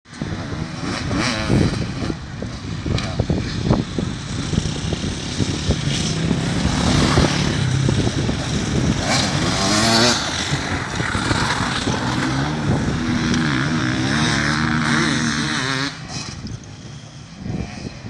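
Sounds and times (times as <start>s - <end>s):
dirt bike engines revving: 0.1s - 18.0s.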